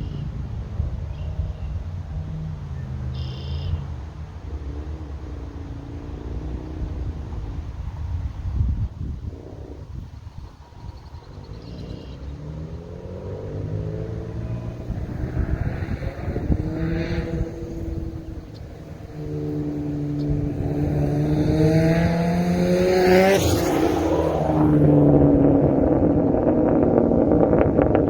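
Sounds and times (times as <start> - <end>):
turbocharged car engine accelerating: 0.0 - 28.0.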